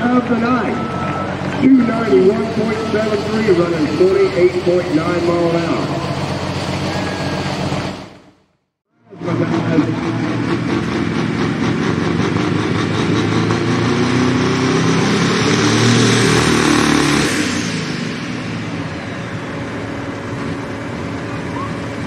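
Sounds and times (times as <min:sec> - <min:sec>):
diesel tractor engine roaring: 0:00.0 - 0:22.0
high turbo whine: 0:00.0 - 0:22.0.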